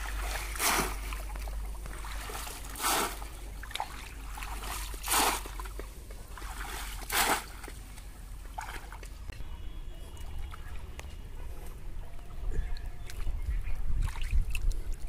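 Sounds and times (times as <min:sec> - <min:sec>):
trickling water: 0:00.0 - 0:09.3, 0:12.2 - 0:15.0.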